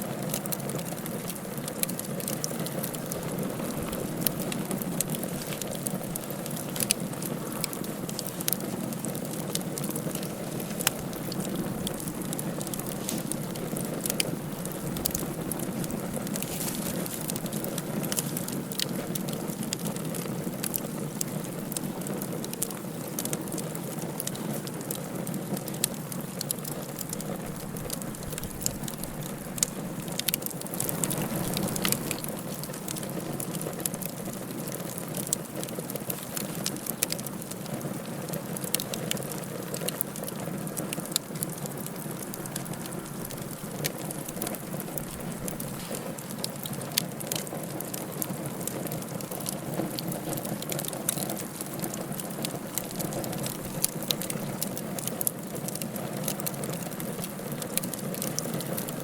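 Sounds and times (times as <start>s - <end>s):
fire crackling and popping: 0.0s - 59.0s
wood fire hiss and rumble: 0.0s - 59.0s.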